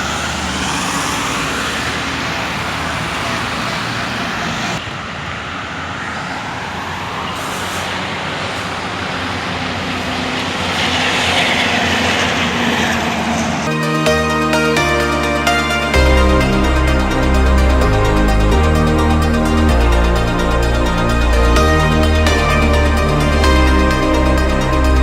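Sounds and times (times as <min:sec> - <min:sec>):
road traffic noise: 0:00.0 - 0:25.0
truck diesel engines running: 0:00.0 - 0:25.0.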